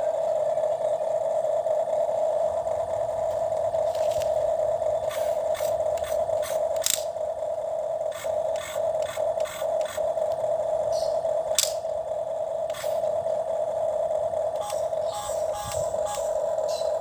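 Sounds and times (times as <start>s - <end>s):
small electric motor whining: 1.8s - 7.2s, 7.9s - 17.0s.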